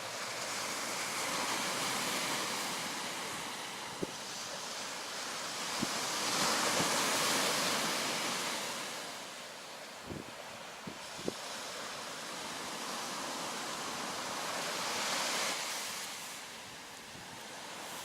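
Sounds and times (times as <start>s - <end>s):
sea waves washing onto shore: 0.0s - 18.0s.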